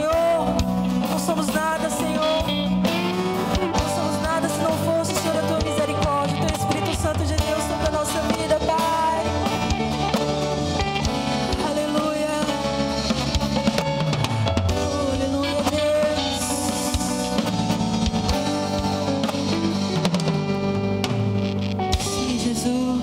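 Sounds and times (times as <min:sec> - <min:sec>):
person singing: 0:00.0 - 0:17.7, 0:21.9 - 0:23.0
drum kit beat: 0:00.0 - 0:23.0
worship band music: 0:00.0 - 0:23.0.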